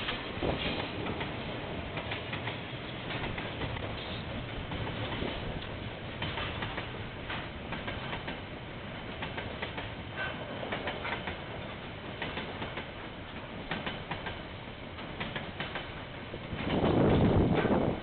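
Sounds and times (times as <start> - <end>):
freight train rumbling past: 0.0 - 18.0
wheels clicking over rail joints: 0.0 - 18.0.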